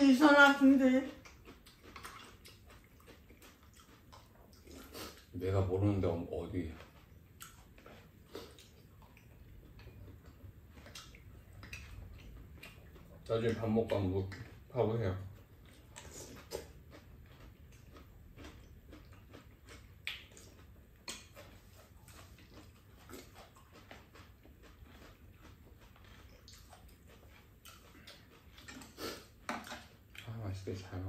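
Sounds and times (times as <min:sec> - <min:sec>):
soft chewing: 0:00.0 - 0:31.0.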